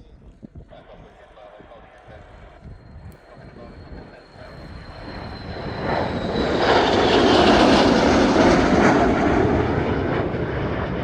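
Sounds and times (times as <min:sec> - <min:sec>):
aircraft engine flying past: 0:00.7 - 0:11.0.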